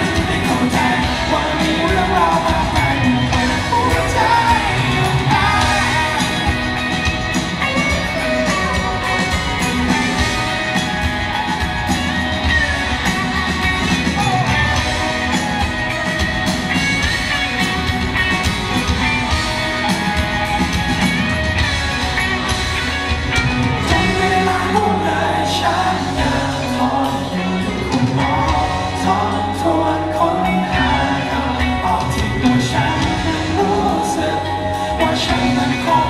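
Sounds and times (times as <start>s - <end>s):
lead singer singing: 0.0s - 17.2s, 23.7s - 36.0s
live rock band playing: 0.0s - 36.0s.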